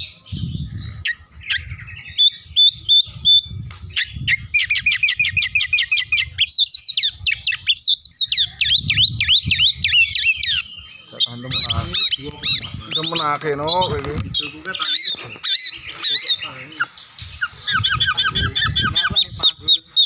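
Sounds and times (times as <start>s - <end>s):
bird singing: 0.0s - 20.0s.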